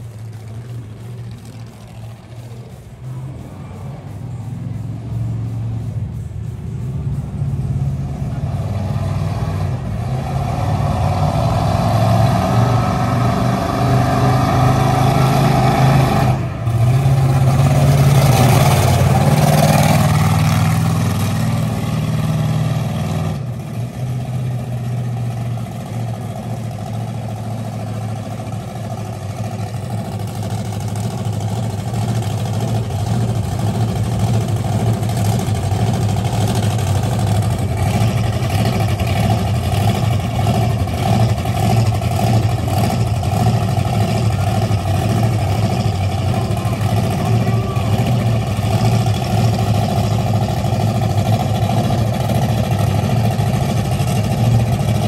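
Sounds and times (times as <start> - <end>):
monster truck engine revving: 0.0 - 55.0.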